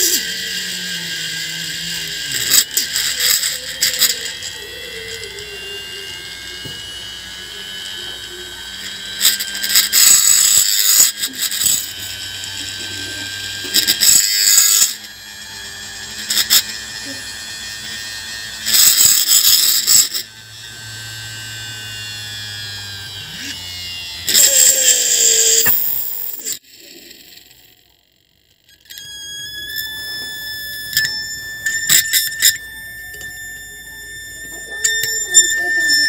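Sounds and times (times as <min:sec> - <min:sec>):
finger scraping spinning hub: 0:00.0 - 0:27.8, 0:28.5 - 0:36.0
hard drive motor whine: 0:00.0 - 0:36.0.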